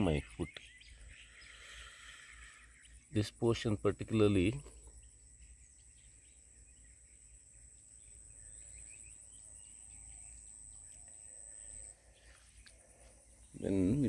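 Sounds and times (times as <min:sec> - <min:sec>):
faint bird chirps: 0:00.0 - 0:14.0
insect trilling: 0:00.0 - 0:14.0.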